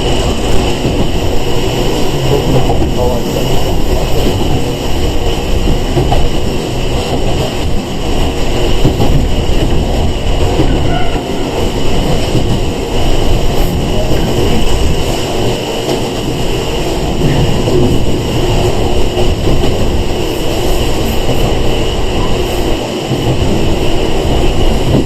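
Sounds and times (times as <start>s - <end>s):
clickety-clack of train wheels: 0.0s - 25.0s
train wheels rumbling on rail: 0.0s - 25.0s.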